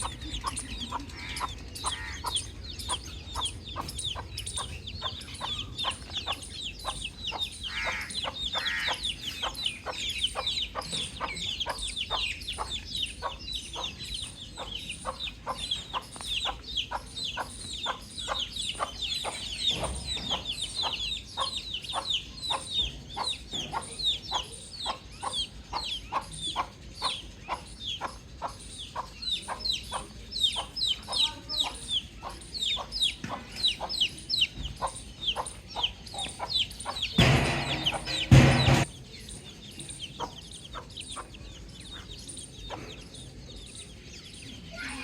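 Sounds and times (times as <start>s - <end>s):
low clucking calls: 0.0s - 38.9s
baby chicks peeping: 0.0s - 45.0s.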